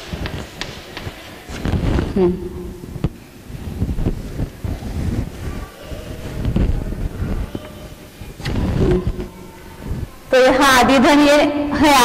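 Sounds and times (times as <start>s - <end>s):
wind noise on microphone: 0.0s - 11.1s.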